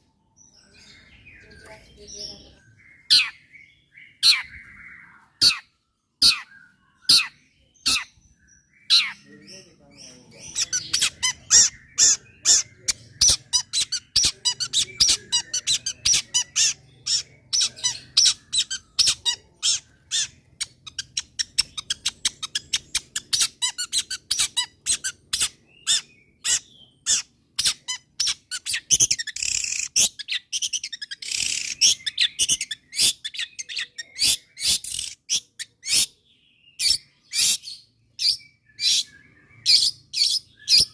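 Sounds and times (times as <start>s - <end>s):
bird chirping rapidly: 0.8s - 40.9s
bird harsh rasping notes: 3.0s - 36.2s.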